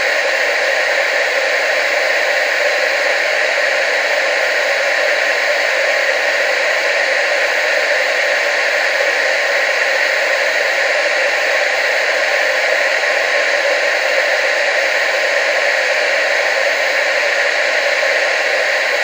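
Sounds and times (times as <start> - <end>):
tv static hiss: 0.0 - 19.0.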